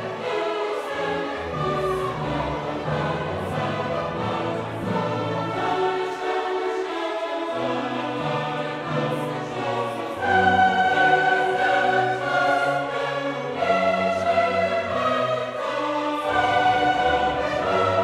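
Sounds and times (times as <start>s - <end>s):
operatic choral singing: 0.0s - 18.0s
orchestra playing: 0.0s - 18.0s.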